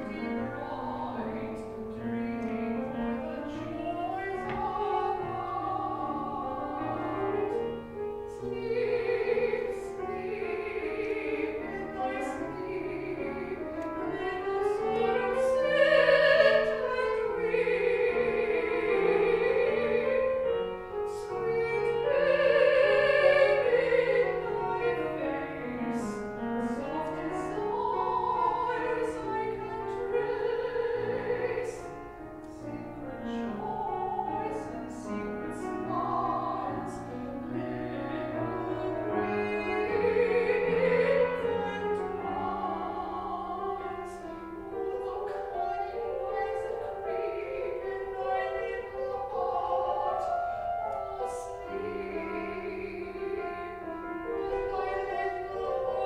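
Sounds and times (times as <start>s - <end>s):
grand piano: 0.0s - 56.0s.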